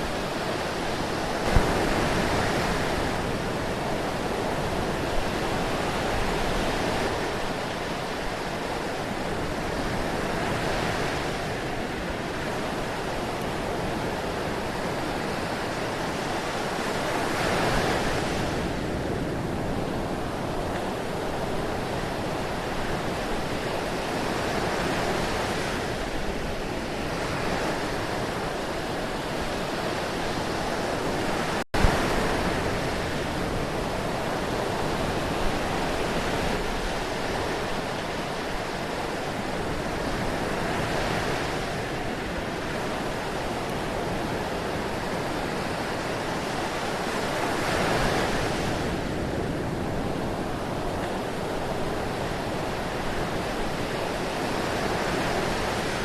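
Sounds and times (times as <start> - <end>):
ocean surf washing in: 0.0 - 56.0.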